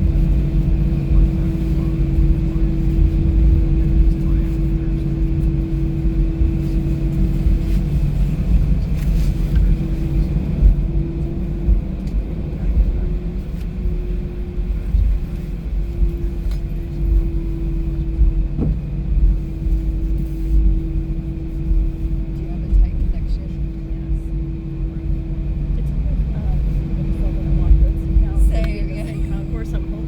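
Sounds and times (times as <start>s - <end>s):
jet engine hum: 0.0s - 30.0s
low cabin rumble: 0.0s - 30.0s.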